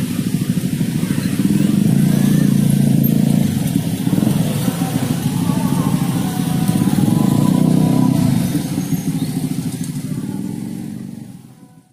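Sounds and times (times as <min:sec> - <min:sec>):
scooters and motorcycles pulling away: 0:00.0 - 0:11.9.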